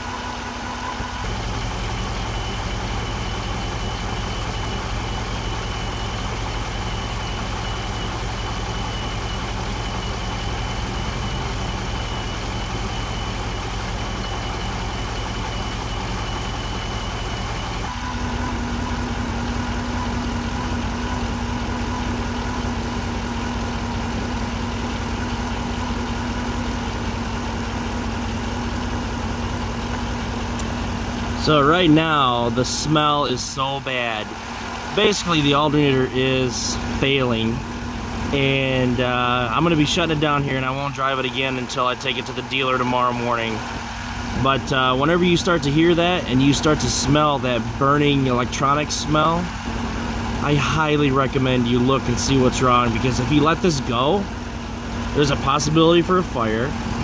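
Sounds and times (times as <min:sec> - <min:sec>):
alternator whine: 0:00.0 - 0:57.0
car engine idling: 0:00.0 - 0:57.0.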